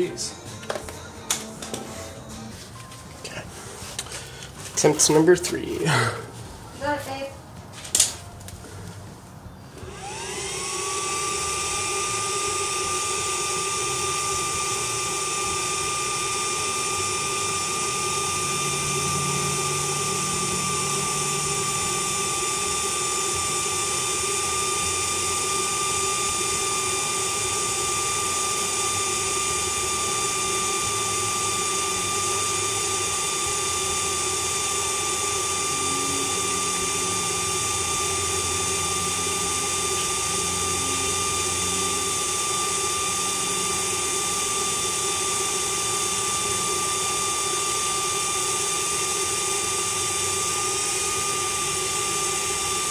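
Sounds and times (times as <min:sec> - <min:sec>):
induction heater high tone: 0:00.0 - 0:08.7, 0:09.3 - 0:52.9.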